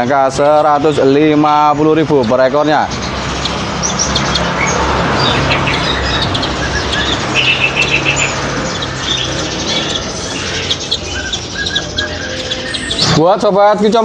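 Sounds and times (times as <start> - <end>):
caged songbirds chirping: 0.0 - 14.0.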